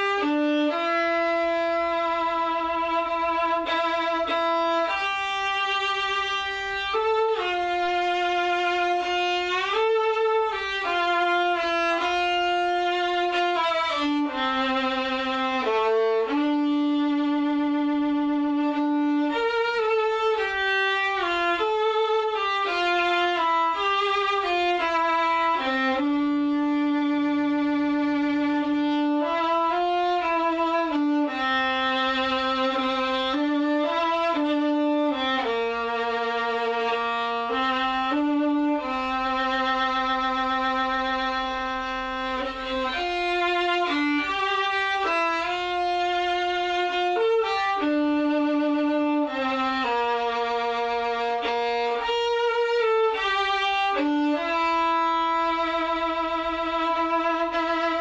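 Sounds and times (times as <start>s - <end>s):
solo violin slow melody: 0.0s - 58.0s.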